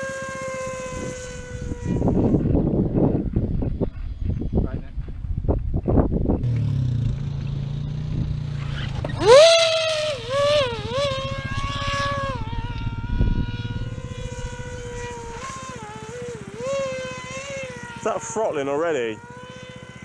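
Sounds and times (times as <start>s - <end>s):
low steady drone: 0.0s - 20.0s
model plane motor whine: 0.0s - 20.0s.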